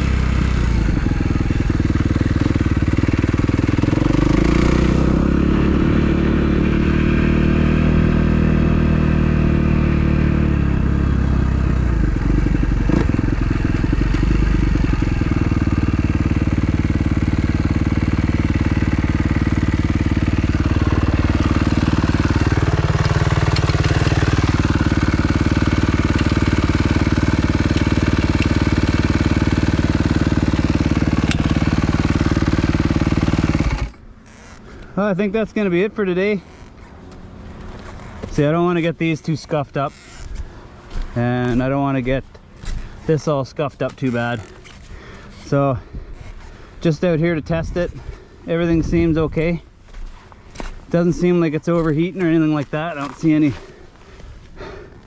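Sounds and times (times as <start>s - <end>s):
dirt bike engine revving and idling: 0.0s - 55.0s.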